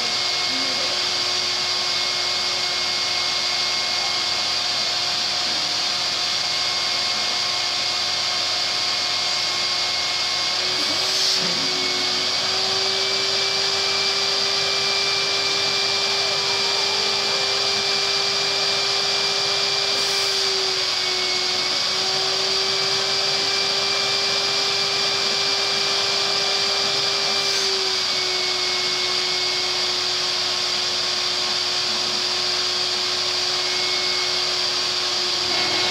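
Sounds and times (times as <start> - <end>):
vacuum cleaner running: 0.0 - 35.9.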